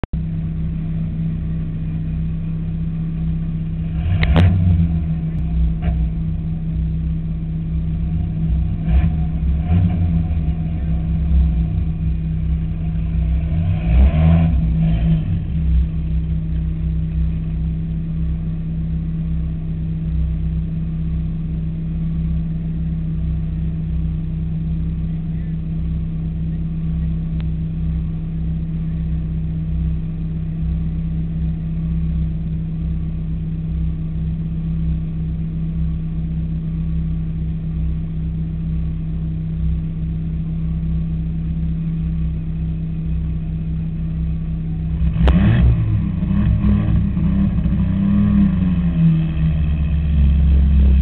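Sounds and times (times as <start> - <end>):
race car engine idling: 0.1 - 51.0.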